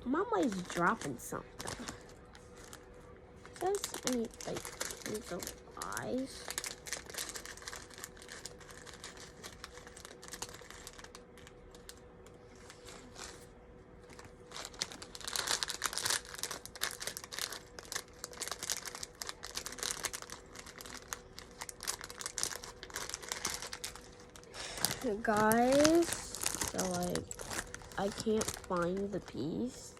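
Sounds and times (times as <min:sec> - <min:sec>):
plastic bag crinkling: 0:00.0 - 0:29.9.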